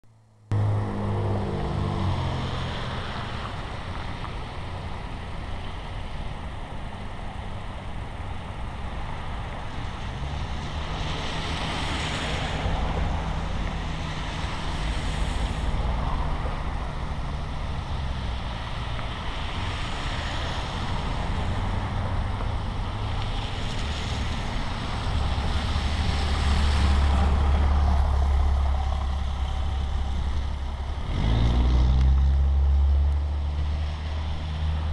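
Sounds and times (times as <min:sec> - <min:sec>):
low engine rumble: 0:00.0 - 0:34.9
vehicles passing with tyre hiss: 0:00.5 - 0:34.9.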